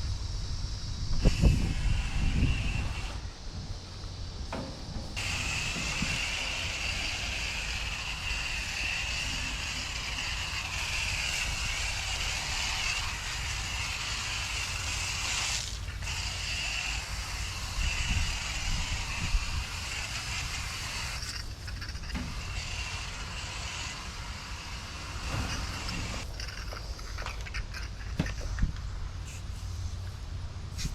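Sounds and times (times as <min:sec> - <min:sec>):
hose water spraying on metal coil: 0:01.2 - 0:03.3, 0:03.9 - 0:26.6.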